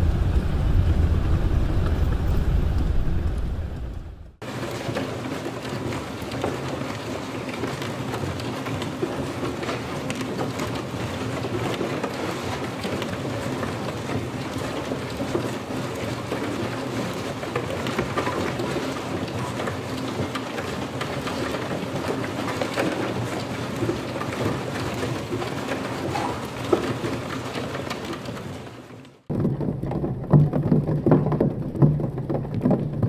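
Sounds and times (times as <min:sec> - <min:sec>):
motors rattling on cardboard: 0:04.4 - 0:33.0.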